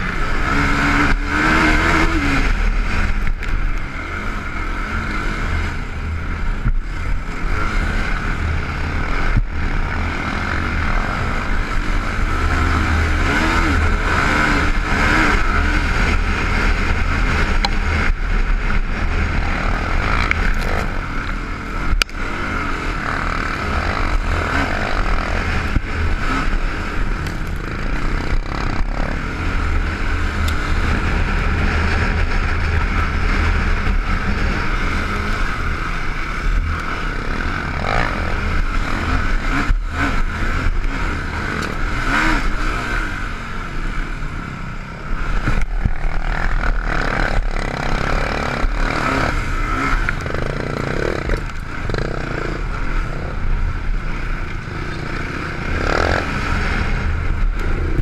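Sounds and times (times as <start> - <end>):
quad engine running hard: 0.0 - 58.0.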